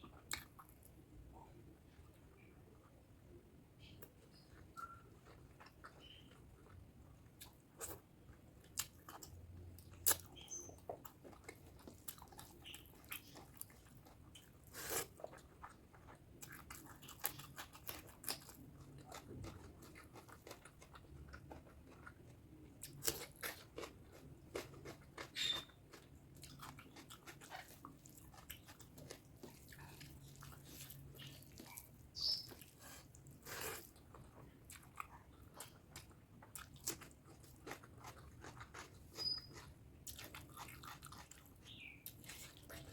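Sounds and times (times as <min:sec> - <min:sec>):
chewing and mouth smacks: 0:00.0 - 0:00.9, 0:07.4 - 0:42.9.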